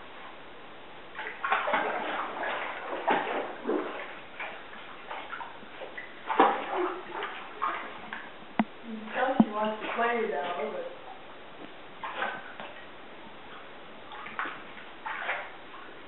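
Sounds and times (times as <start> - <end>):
bathwater splashing: 1.1 - 16.0.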